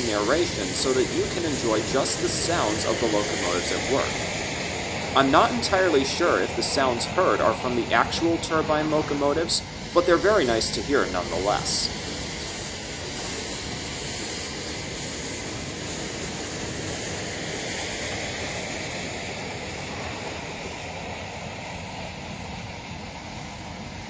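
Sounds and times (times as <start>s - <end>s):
locomotives passing rushing noise: 0.0s - 22.4s.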